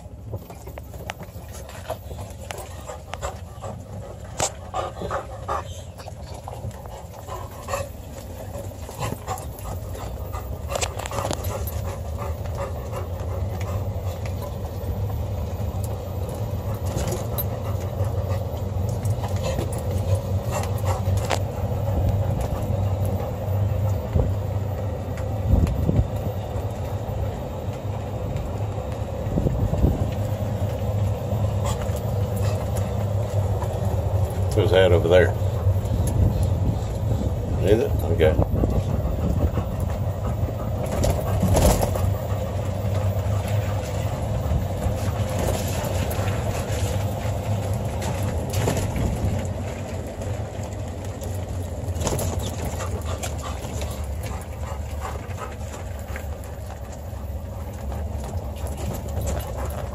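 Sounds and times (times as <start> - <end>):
vehicle drone: 0.0 - 59.9
dog panting: 0.4 - 24.4, 30.1 - 49.4, 50.2 - 59.9.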